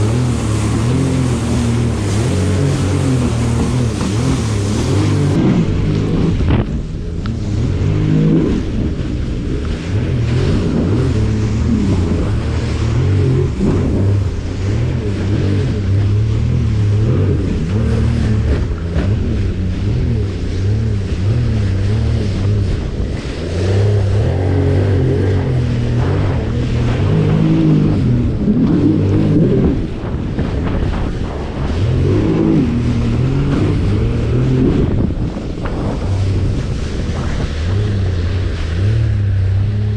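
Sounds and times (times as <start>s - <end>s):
jet ski engine: 0.0s - 39.9s
rush of water and wind: 0.0s - 39.9s.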